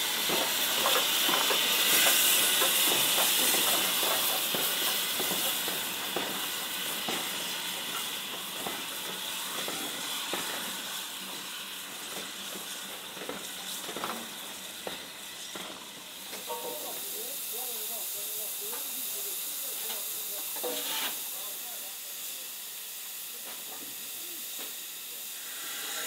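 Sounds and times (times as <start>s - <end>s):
steam locomotive hissing: 0.0s - 26.0s.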